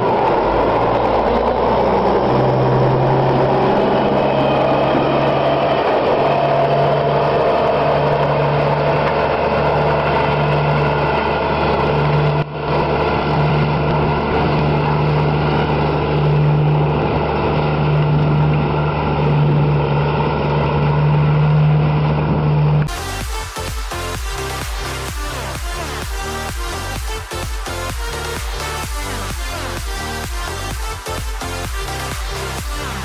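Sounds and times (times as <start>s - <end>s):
manure spreader engine humming: 0.0s - 33.0s.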